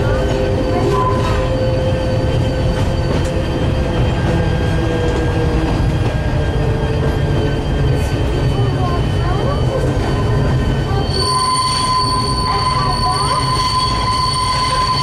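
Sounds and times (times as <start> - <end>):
train rumbling: 0.0 - 15.0
wheels squealing: 0.0 - 15.0.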